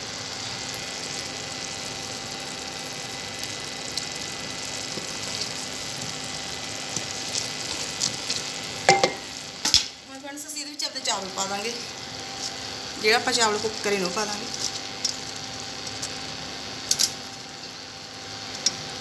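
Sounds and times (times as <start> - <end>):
syrup boiling in a pot: 0.0 - 19.0.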